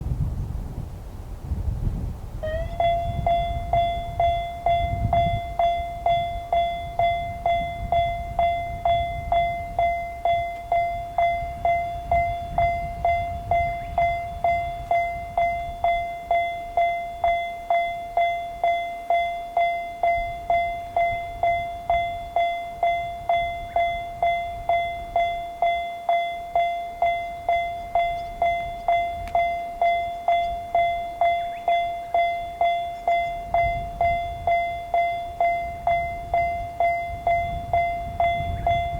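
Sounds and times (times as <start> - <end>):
railroad crossing bell ringing: 2.4 - 38.9.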